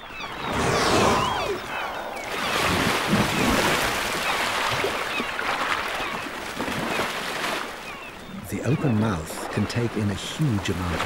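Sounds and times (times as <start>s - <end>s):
gulls calling: 0.0s - 11.0s
seawater splashing and rushing: 0.2s - 11.0s.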